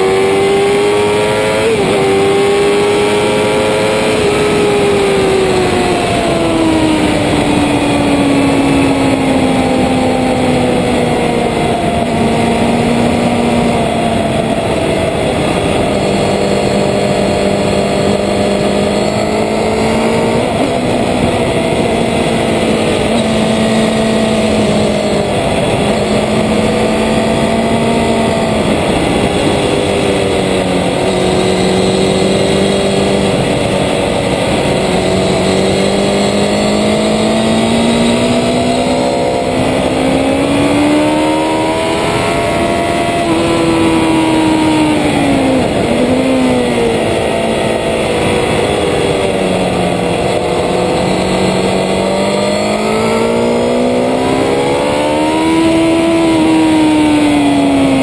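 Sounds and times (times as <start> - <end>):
motorcycle engine running hard: 0.0 - 58.0
wind and road rush: 0.0 - 58.0.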